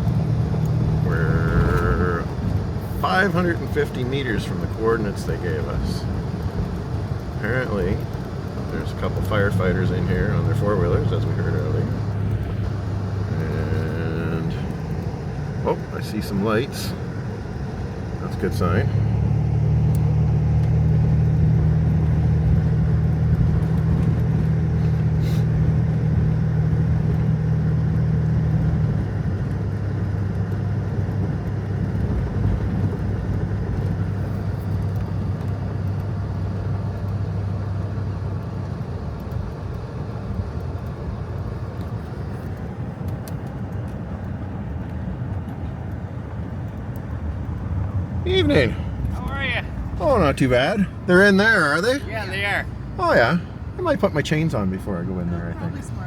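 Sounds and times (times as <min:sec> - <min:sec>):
engine and tyre drone: 0:00.0 - 0:56.0.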